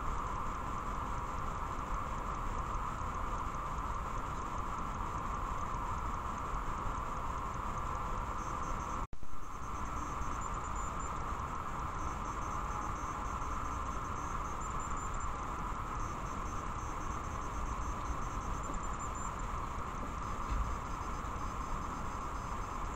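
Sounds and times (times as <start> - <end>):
constant hum: 0.0 - 22.9
steady electronic hiss: 0.0 - 22.9.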